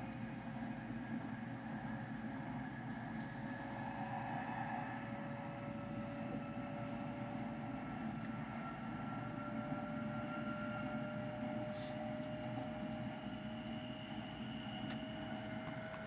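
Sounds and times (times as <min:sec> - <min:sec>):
train cabin rumble at speed: 0:00.0 - 0:16.0.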